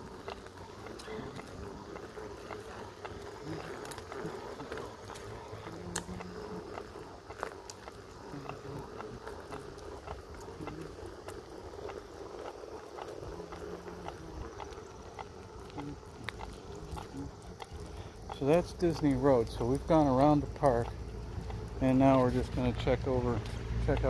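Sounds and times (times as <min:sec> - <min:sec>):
electric motor hum: 0:00.0 - 0:24.0
light ticks: 0:00.2 - 0:24.0.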